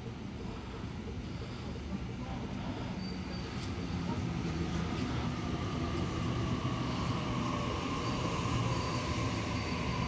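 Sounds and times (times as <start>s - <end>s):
electric train whine: 0.0s - 10.0s
wheels rumbling on rails: 0.0s - 10.0s.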